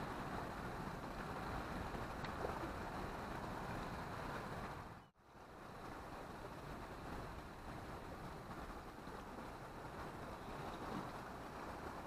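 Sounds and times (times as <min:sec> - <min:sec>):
sea surf rushing: 0:00.0 - 0:12.0
wind on microphone: 0:00.0 - 0:12.0.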